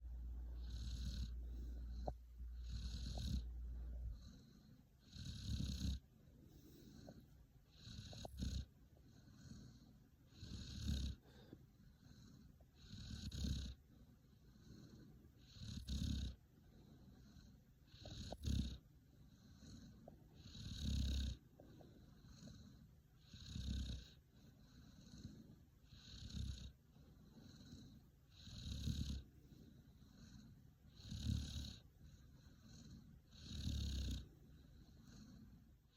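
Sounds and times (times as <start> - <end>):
dog snore-like breathing: 0.6 - 35.9.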